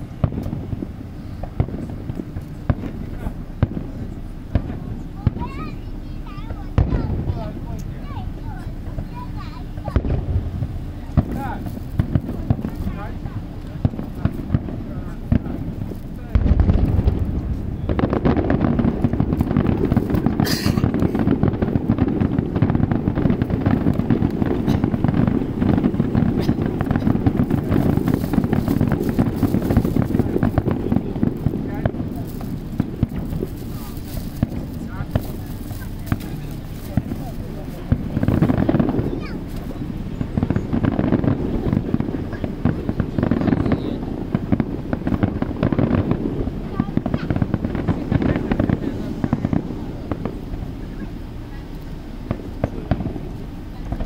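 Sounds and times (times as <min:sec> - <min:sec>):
continuous rumble: 0:00.0 - 0:54.0
fireworks booms and crackles: 0:00.0 - 0:54.0.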